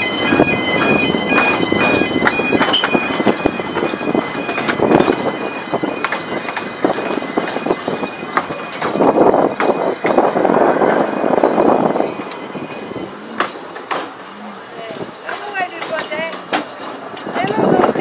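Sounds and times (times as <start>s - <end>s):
two-tone electronic beeping: 0.0s - 14.6s
tram rumbling along track: 0.0s - 18.0s
wheels clattering over rail joints: 0.0s - 18.0s.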